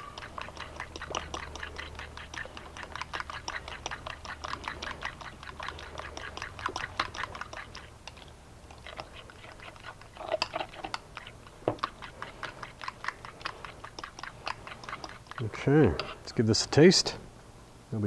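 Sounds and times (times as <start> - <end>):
spoon stirring in ceramic bowl: 0.0 - 16.8.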